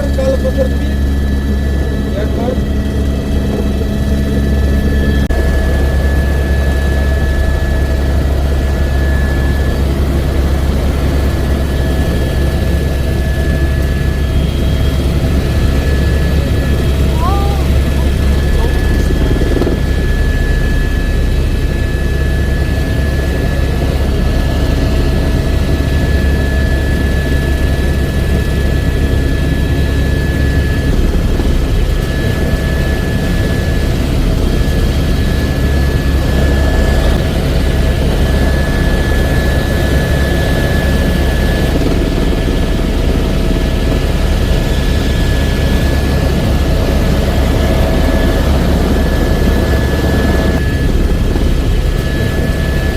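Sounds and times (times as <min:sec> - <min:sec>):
helicopter rotor and engine drone: 0:00.0 - 0:52.9
high whine: 0:00.0 - 0:52.9.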